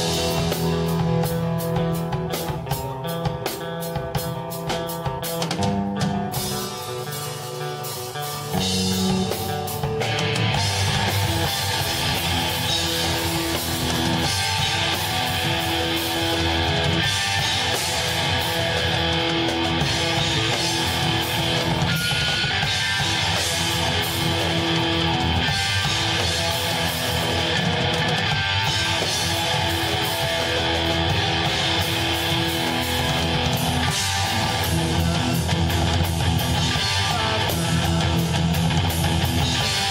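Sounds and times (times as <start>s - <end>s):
heavy electric guitar: 0.0s - 39.9s
rock band playing live: 0.0s - 39.9s.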